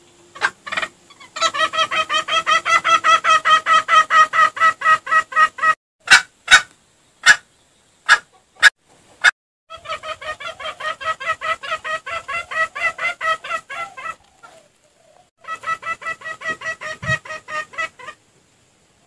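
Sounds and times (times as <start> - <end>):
rapid pitched clucks: 0.3 - 7.4, 8.1 - 14.7, 15.4 - 18.2.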